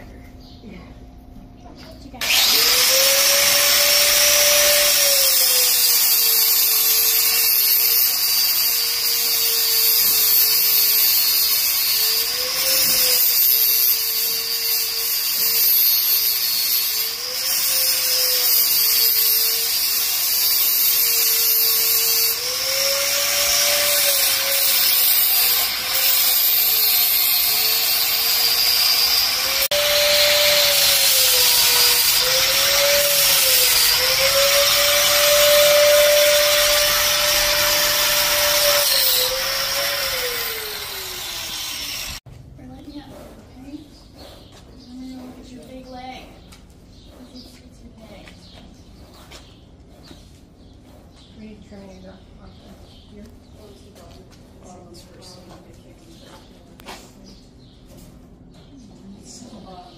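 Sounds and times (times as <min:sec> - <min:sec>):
angle grinder grinding hoof: 0:02.2 - 0:51.8.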